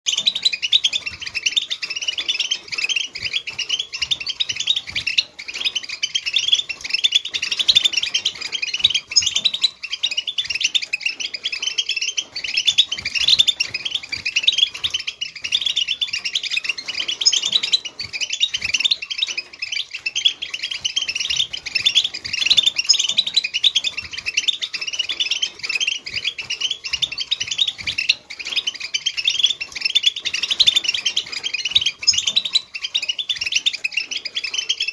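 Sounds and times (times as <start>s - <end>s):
goldfinch twittering song: 0.0s - 34.9s.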